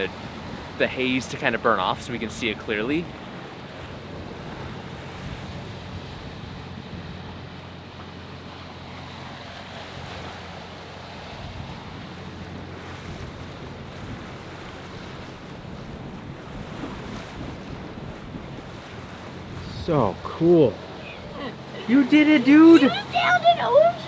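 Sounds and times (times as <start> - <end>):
wind rushing over microphone: 0.0 - 7.3, 11.3 - 24.0
sea noise: 0.0 - 24.0
wind: 0.0 - 24.0.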